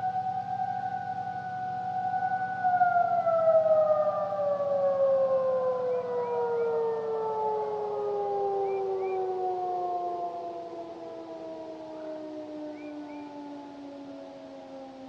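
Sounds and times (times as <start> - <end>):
warning siren winding down: 0.0 - 15.0.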